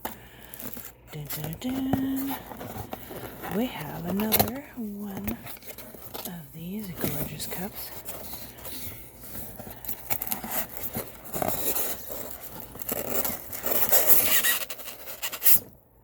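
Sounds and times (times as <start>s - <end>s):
packaging rustling and crinkling: 0.0s - 15.8s.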